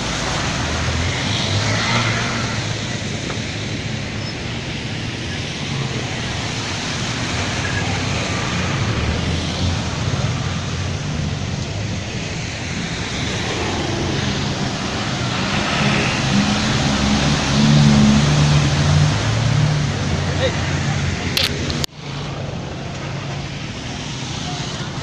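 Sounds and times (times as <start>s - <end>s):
bus engine: 0.0s - 25.0s
floodwater rushing: 0.0s - 25.0s.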